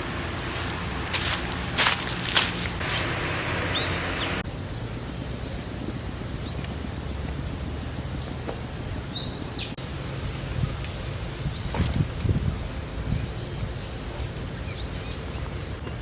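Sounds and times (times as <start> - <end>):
birds chirping: 0.0 - 16.0
hiss: 2.6 - 16.0.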